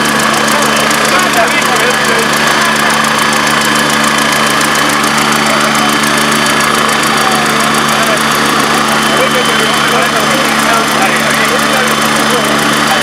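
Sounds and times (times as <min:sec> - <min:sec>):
helicopter rotor beat: 0:00.0 - 0:13.0
helicopter turbine whine: 0:00.0 - 0:13.0.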